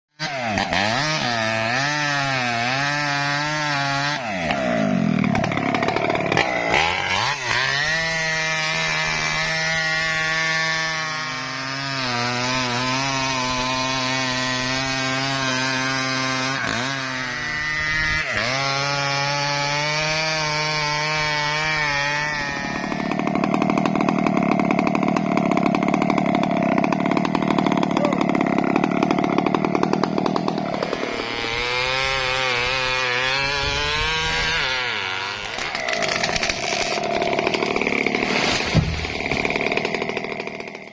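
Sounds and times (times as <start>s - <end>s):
chainsaw cutting wood: 0.1s - 40.9s.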